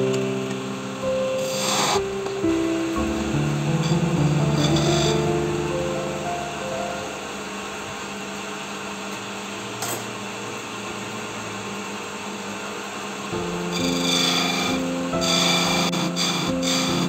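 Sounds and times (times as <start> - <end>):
wood lathe motor hum: 0.0 - 9.7, 10.3 - 17.0.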